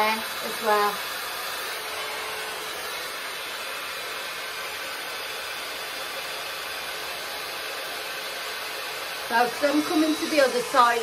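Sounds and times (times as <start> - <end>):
hot-air brush blowing: 0.0 - 11.0.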